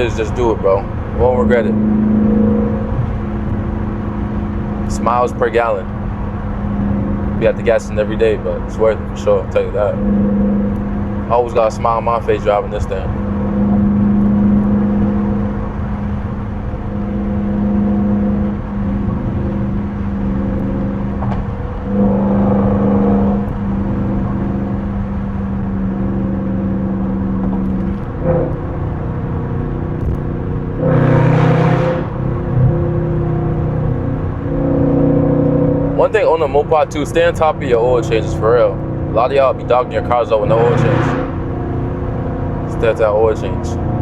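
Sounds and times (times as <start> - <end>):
car engine drone from cabin: 0.0 - 44.0.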